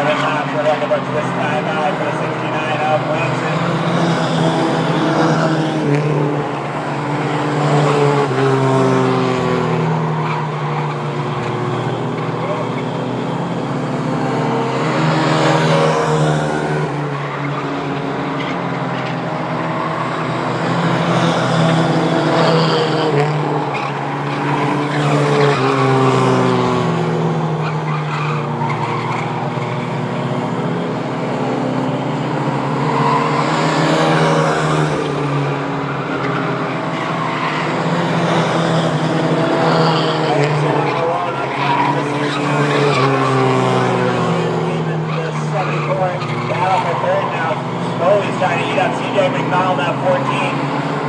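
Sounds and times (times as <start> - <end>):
race truck engines revving: 0.0 - 51.0.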